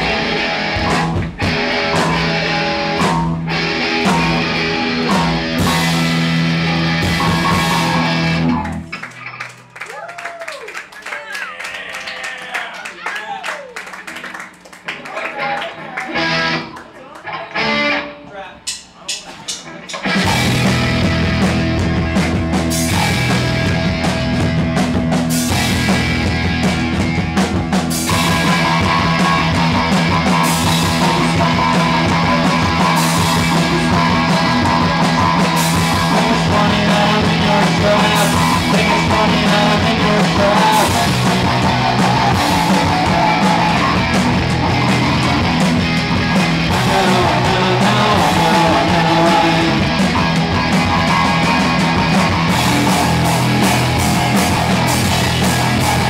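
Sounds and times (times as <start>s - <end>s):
punk rock band playing loud: 0.0s - 9.7s, 15.4s - 18.2s, 19.5s - 56.0s.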